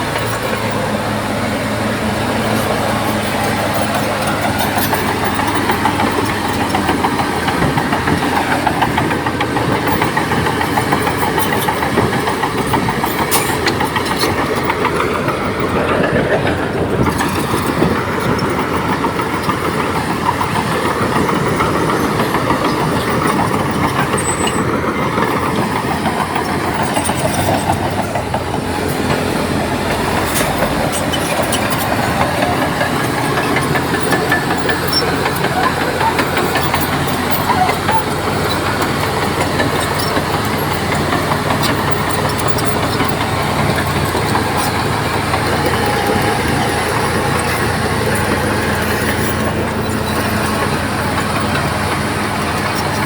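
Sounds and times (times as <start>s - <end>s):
bulldozer diesel engine under load: 0.0s - 53.0s
steel tracks clanking: 0.0s - 53.0s.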